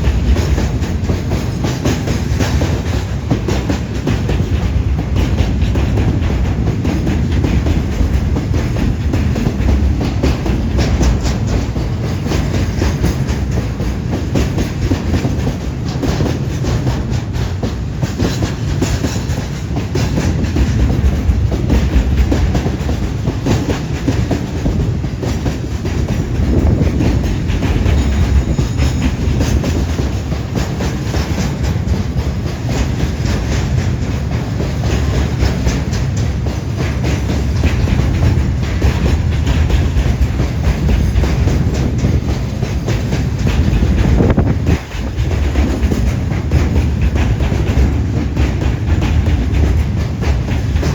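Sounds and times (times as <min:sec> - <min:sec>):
freight train rumbling past: 0:00.0 - 0:50.9
wheels clacking over rail joints: 0:00.0 - 0:50.9.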